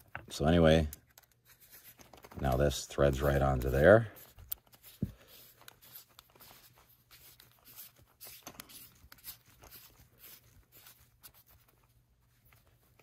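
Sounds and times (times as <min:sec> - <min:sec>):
threaded adapter clicking and scraping: 0:00.0 - 0:13.0.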